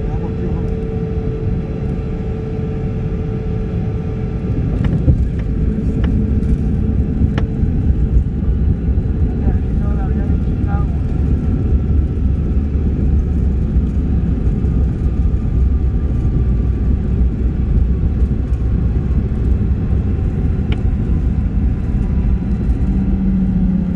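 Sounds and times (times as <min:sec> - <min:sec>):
jet cabin low rumble: 0:00.0 - 0:23.9.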